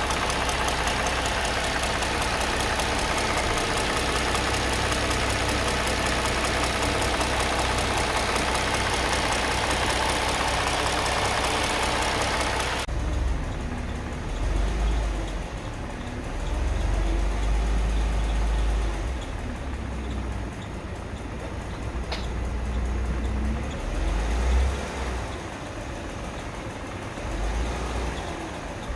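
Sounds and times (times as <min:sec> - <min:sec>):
engine fast ticking: 0:00.0 - 0:28.9
engine revving rumble: 0:00.0 - 0:28.9.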